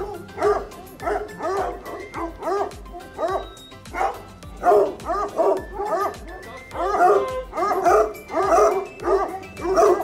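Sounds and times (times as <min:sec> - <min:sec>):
hounds baying and yelping: 0:00.0 - 0:10.0.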